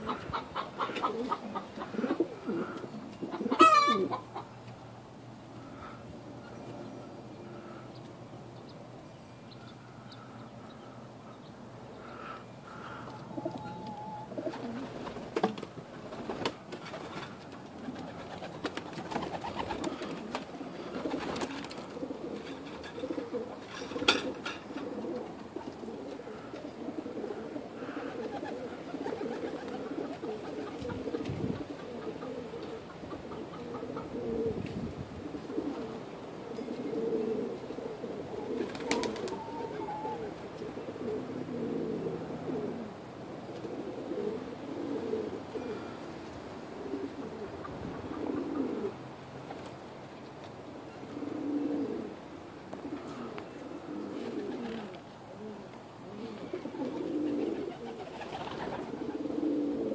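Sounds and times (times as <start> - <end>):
pigeons cooing: 0.0 - 8.0, 9.6 - 49.9, 50.6 - 59.9.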